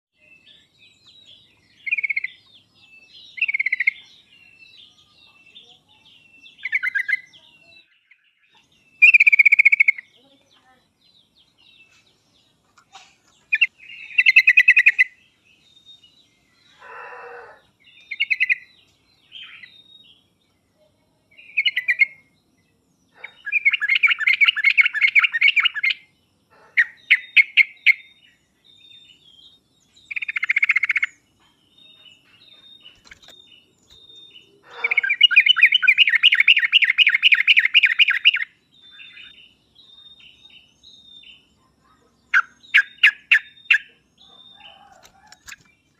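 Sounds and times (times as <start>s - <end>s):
bird singing bubbly chattering phrases: 0.4s - 12.0s, 12.6s - 15.3s, 17.9s - 20.0s, 21.3s - 22.4s, 23.0s - 28.4s, 30.0s - 45.9s.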